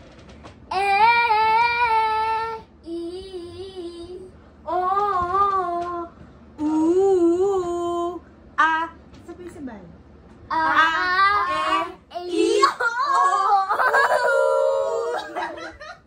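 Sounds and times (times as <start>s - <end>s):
girls and woman singing: 0.7s - 8.9s, 10.5s - 15.6s.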